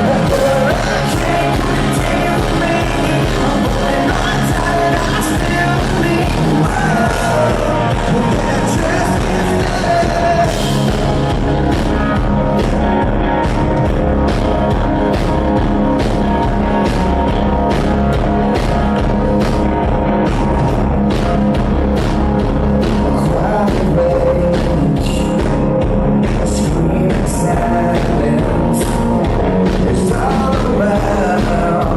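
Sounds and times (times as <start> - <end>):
drum kit beat: 0.0 - 31.9
rock band playing live: 0.0 - 31.9.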